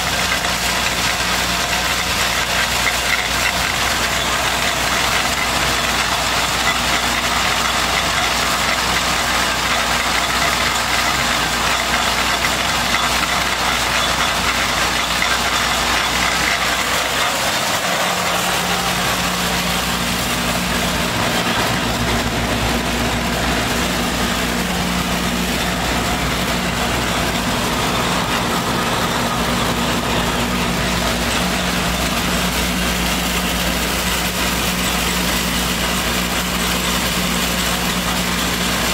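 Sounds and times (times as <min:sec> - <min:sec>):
pellet mill machine hum: 0:00.0 - 0:38.9.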